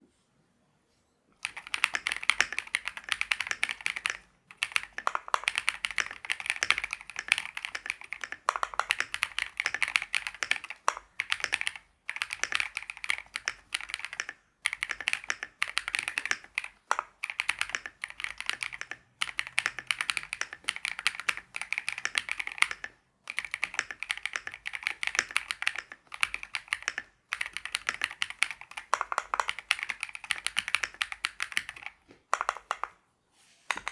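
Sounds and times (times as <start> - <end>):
mechanical keyboard typing: 1.4 - 33.0, 33.7 - 33.9.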